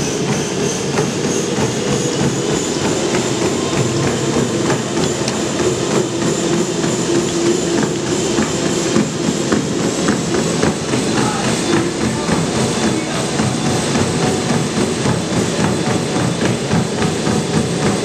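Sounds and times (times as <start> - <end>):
foot strikes on treadmill belt: 0.0 - 18.0
treadmill belt and motor: 0.0 - 18.0.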